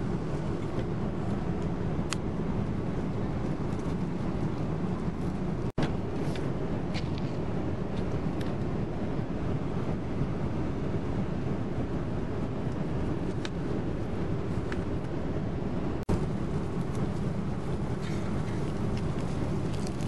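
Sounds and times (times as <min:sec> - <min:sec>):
airliner cabin engine and air noise: 0:00.0 - 0:20.0.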